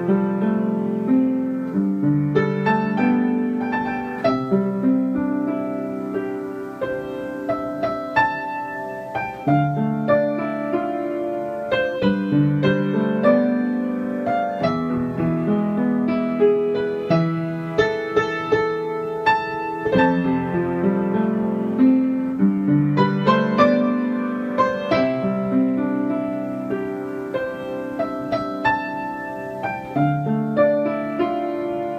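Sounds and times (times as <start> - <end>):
piano notes and chords: 0.0 - 31.9.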